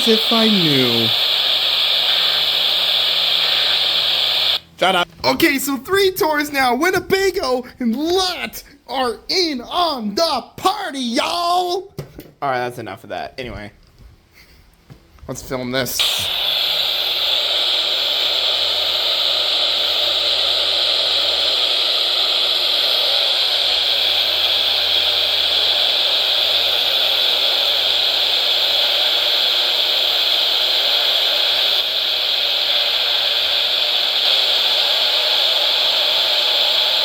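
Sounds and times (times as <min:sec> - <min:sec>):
radio static hiss: 0:00.0 - 0:10.0, 0:15.9 - 0:37.0.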